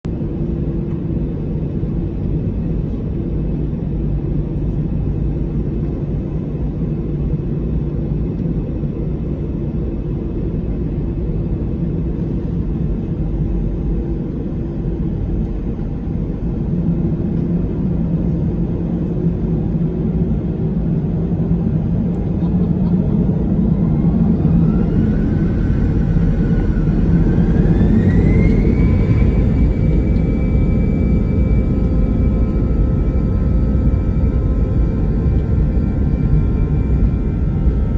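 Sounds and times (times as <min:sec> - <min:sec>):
jet cabin engine rumble: 0:00.1 - 0:37.9.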